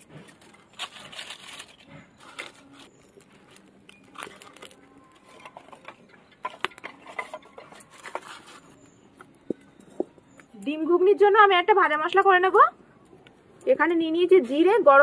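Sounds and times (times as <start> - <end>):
fire crackling in stove: 0.0 - 15.0.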